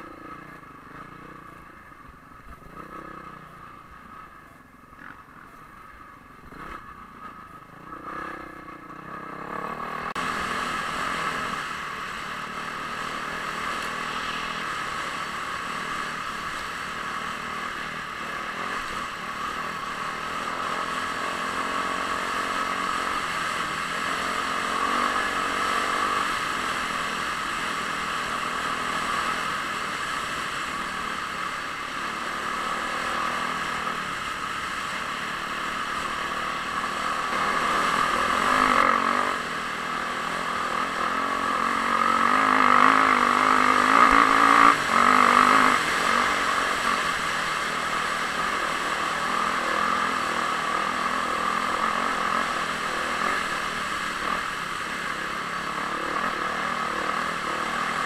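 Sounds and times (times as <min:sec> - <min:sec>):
dirt bike engine running hard: 0:00.0 - 0:58.0.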